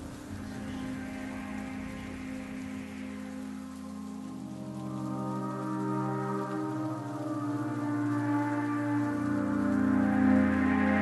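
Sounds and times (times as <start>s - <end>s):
ambient music with sustained chords: 0.0s - 11.0s
rain pattering: 0.0s - 11.0s.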